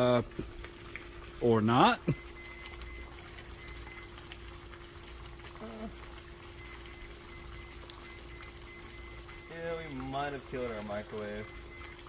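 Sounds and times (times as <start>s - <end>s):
crickets chirping: 0.0s - 12.0s
low steady hum: 0.0s - 12.0s.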